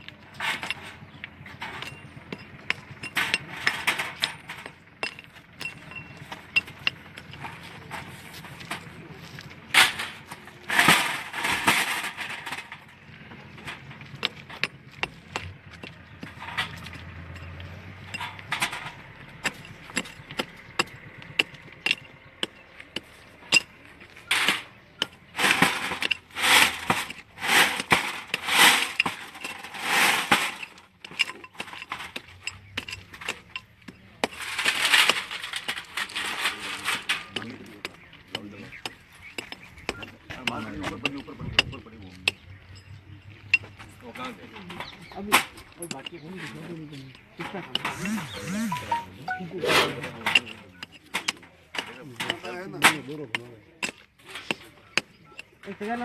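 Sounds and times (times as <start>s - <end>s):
stones and gravel clinking: 0.0s - 49.4s.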